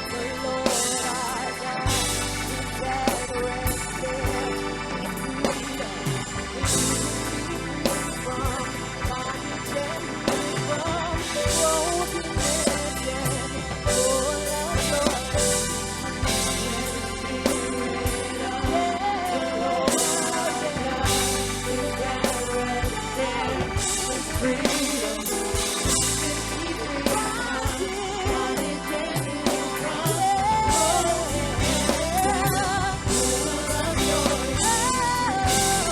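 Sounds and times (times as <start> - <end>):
gospel band playing: 0.0 - 35.9
person singing: 0.0 - 35.9.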